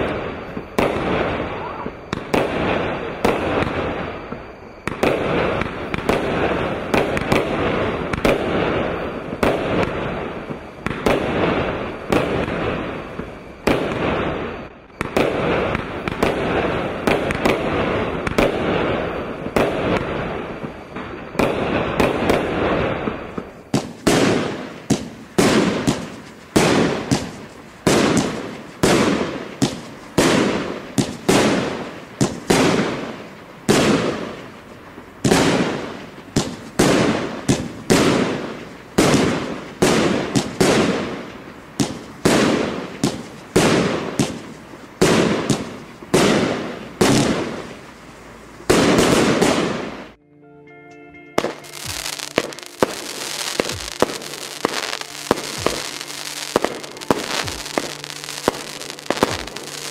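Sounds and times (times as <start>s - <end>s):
fireworks bursting with bangs: 0.0s - 50.2s, 51.4s - 59.9s.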